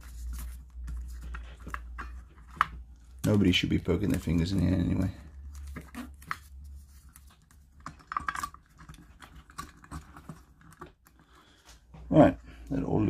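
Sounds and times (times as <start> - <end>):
fingers handling wires: 0.0 - 11.7.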